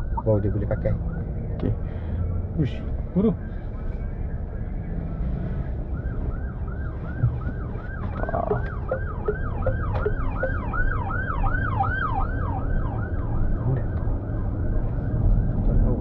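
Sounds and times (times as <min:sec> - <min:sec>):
car road noise rumble: 0:00.0 - 0:16.0
emergency siren yelping: 0:00.0 - 0:16.0.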